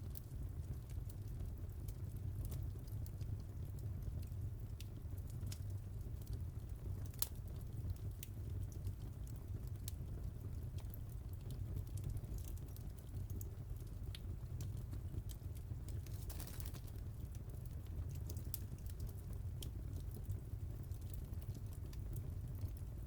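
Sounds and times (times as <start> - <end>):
low rumble of flames: 0.0 - 23.0
wood fire crackling: 0.0 - 23.0.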